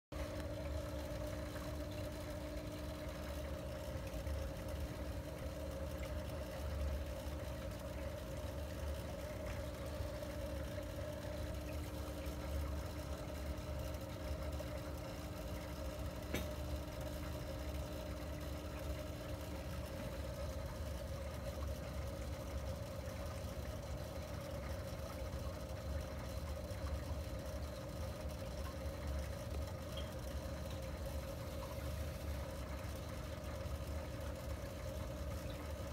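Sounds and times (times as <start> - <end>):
aquarium pump humming: 0.1 - 35.9.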